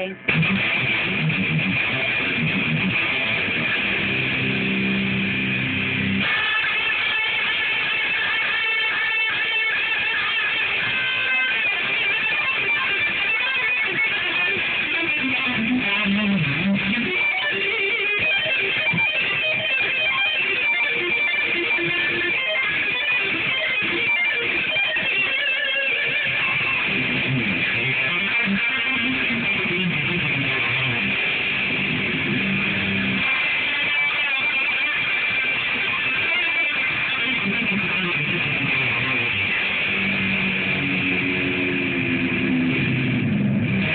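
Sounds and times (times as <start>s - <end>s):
electric guitar shred lead: 0.0s - 43.9s.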